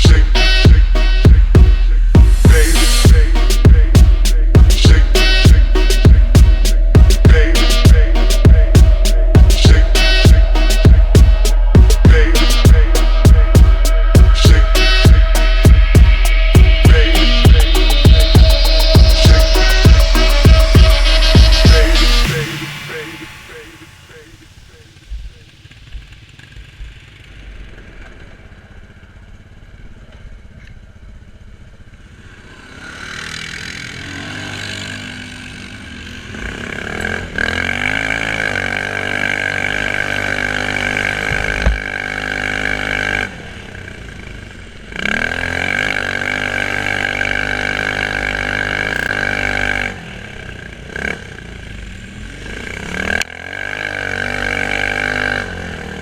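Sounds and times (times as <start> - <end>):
quad bike engine revving: 0.0 - 30.5, 31.7 - 56.0.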